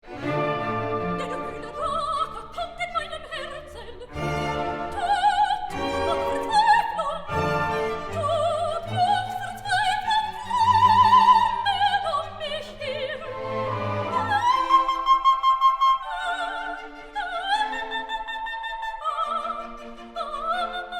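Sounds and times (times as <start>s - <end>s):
orchestral strings: 0.0s - 20.9s
operatic singing: 0.1s - 20.9s.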